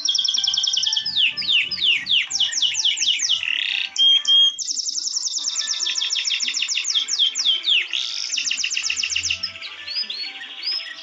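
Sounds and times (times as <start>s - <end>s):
short held bird whistle: 0.0s - 9.4s
soft background music: 0.0s - 11.0s
songbird chirping: 0.0s - 11.0s.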